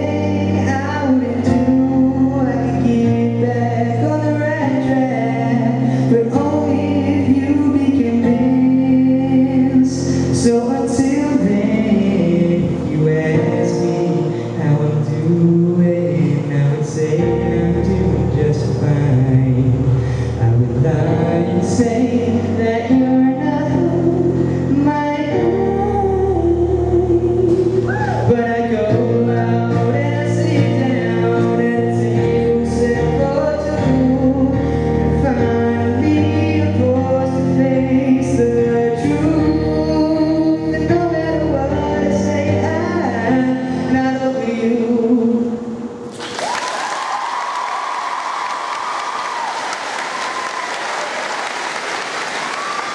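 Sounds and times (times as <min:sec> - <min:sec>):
man singing: 0:00.0 - 0:46.0
electric keyboard: 0:00.0 - 0:46.3.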